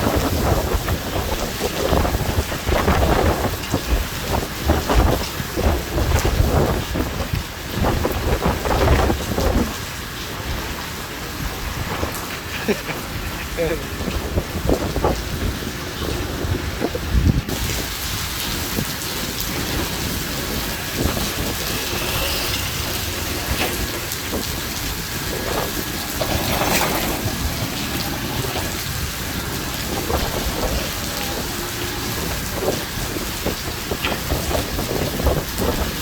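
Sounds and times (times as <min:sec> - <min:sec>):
heavy rain pouring: 0:00.0 - 0:36.0
raindrops striking hard surfaces: 0:00.0 - 0:36.0.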